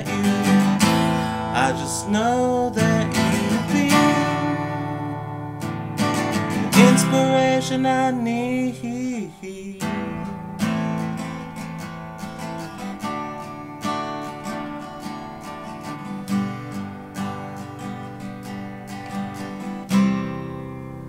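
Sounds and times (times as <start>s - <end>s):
guitar strumming chords: 0.0s - 21.0s.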